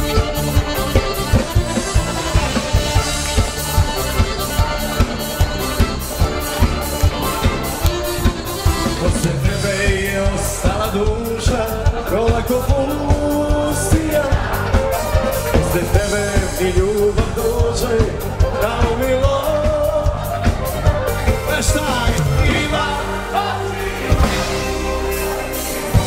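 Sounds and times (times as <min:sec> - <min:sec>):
fast drum beat: 0:00.0 - 0:26.0
live band playing pop-rock: 0:00.0 - 0:26.0.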